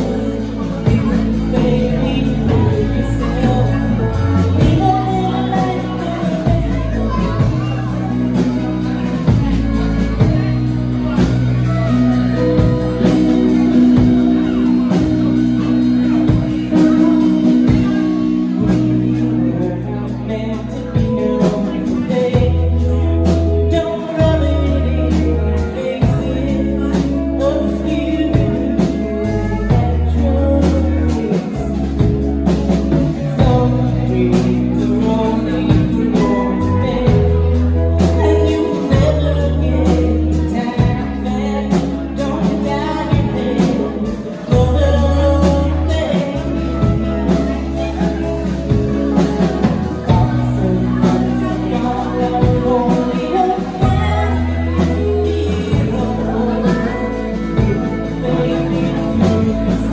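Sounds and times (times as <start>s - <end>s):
live band playing country music: 0.0s - 59.9s
person singing: 0.0s - 59.9s.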